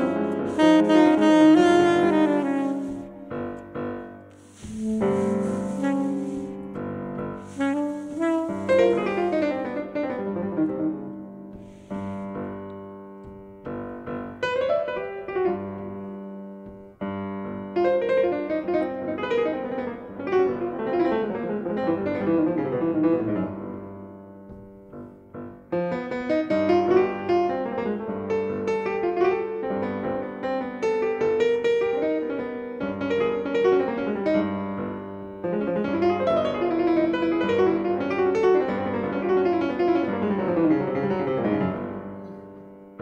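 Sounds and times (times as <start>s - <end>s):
grand piano jazz solo: 0.0s - 43.0s.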